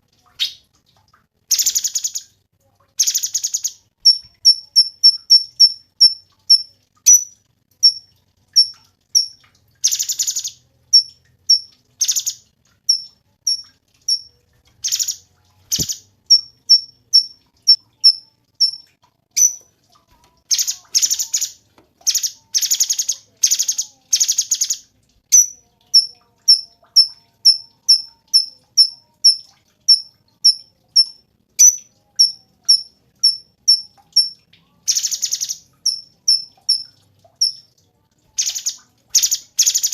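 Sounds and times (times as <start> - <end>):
bird chirping: 1.5 - 2.2, 3.0 - 17.4, 18.0 - 18.8, 19.4 - 19.7, 20.5 - 37.7.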